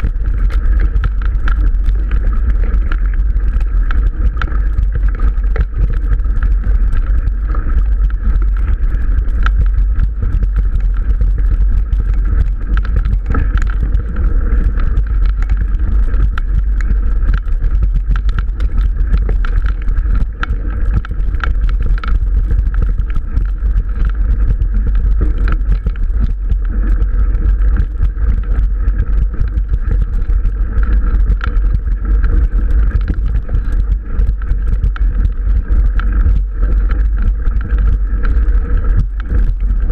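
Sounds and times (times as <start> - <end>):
bike rattling and clicking: 0.0 - 39.9
bike rumbling over dirt track: 0.0 - 39.9.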